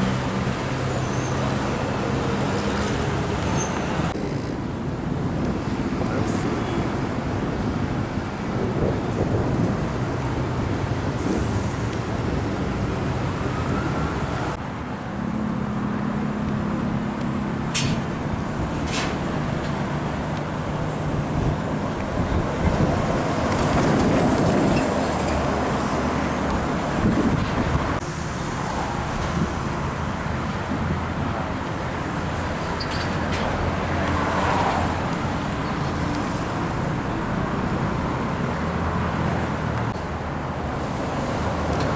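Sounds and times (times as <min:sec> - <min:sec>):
diesel trucks driving past: 0:00.0 - 0:41.9
tyre and traffic noise: 0:00.0 - 0:41.9.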